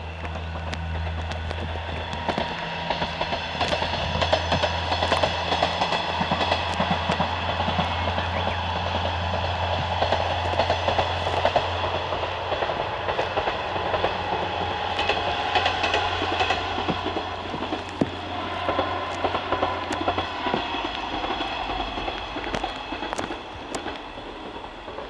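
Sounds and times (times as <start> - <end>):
steady low hum: 0.0 - 25.0
train wheels clattering over rail joints: 0.0 - 25.0.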